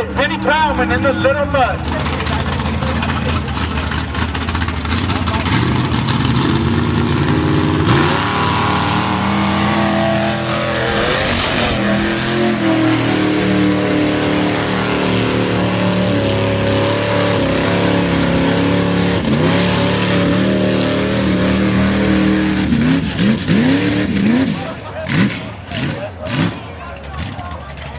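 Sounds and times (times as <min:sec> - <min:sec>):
truck engine revving: 0:00.0 - 0:27.9.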